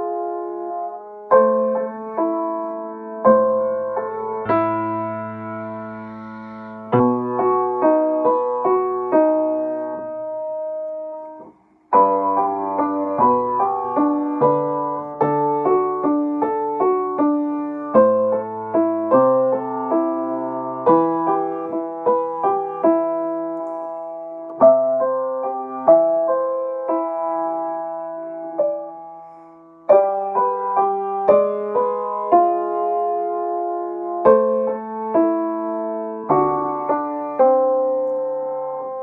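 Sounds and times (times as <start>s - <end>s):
upright piano playing: 0.0s - 39.0s.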